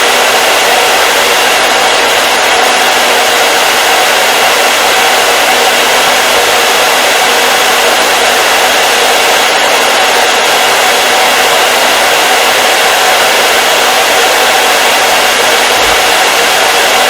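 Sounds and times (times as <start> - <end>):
hair dryer rushing hiss: 0.0 - 17.0.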